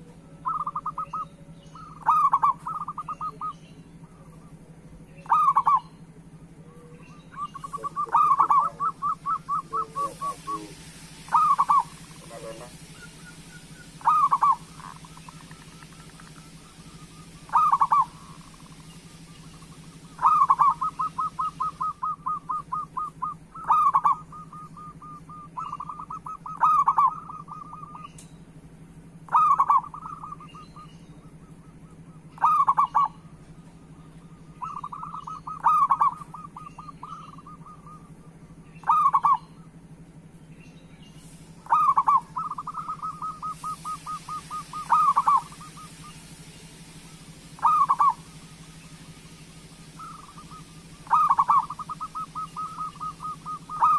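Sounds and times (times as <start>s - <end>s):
dove cooing: 0.0s - 28.2s, 29.2s - 39.8s, 41.6s - 53.9s
steady low hum: 0.0s - 53.9s.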